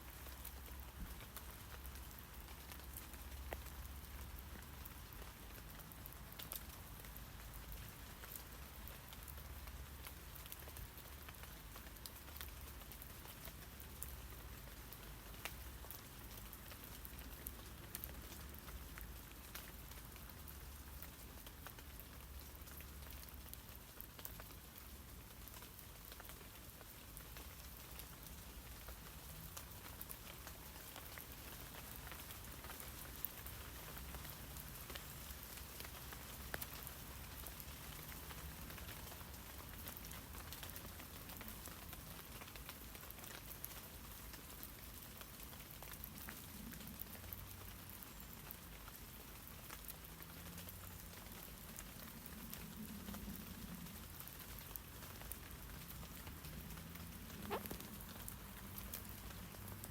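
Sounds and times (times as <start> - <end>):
rain on tree leaves: 0.0 - 59.9.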